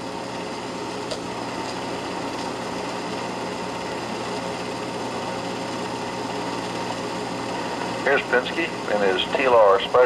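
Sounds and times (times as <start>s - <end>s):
film projector whirring: 0.0s - 10.0s.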